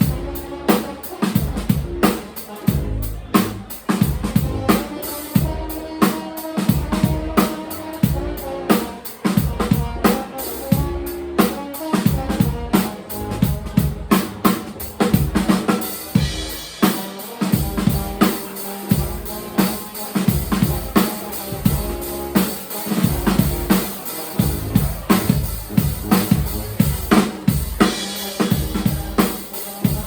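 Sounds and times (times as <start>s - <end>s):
drum kit beat: 0.0s - 30.0s
held instrument notes: 0.0s - 30.0s
bass line: 1.4s - 6.0s, 6.7s - 16.9s, 17.6s - 30.0s.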